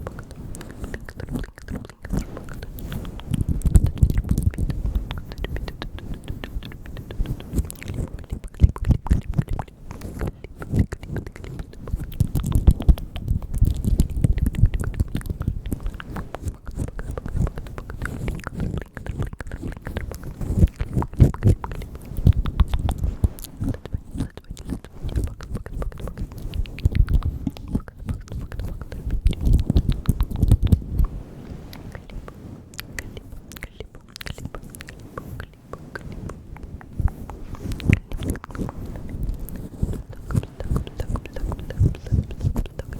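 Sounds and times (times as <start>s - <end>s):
wet mouth clicks and smacks: 0.0s - 42.9s.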